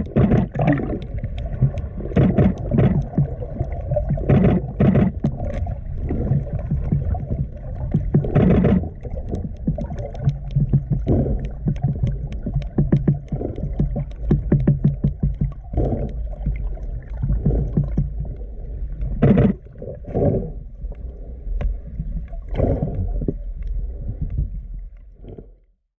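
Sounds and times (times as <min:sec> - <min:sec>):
bursts of water noise: 0:00.0 - 0:25.5
whale clicks underwater: 0:00.0 - 0:25.6
low water rumble: 0:00.0 - 0:26.0.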